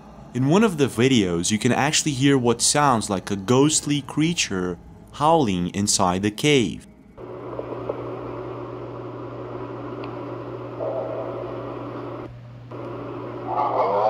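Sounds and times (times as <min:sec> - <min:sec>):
faint howl-like tone: 0:00.0 - 0:14.0
low hum and hiss: 0:00.0 - 0:14.0.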